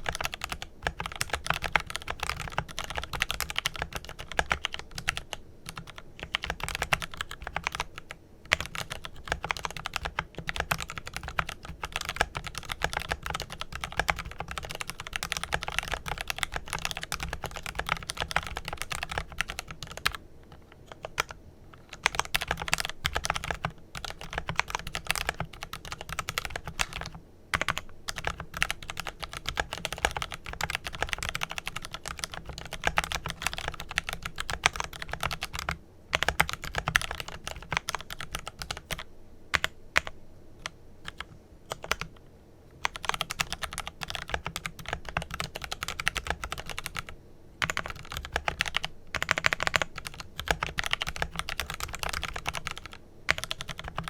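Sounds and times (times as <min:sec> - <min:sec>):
fast typing on mechanical keyboard: 0:00.0 - 0:42.1, 0:42.8 - 0:54.0.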